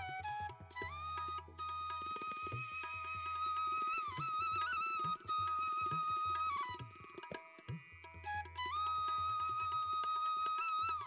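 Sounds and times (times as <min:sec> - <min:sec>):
flute-like melody: 0:00.0 - 0:11.0.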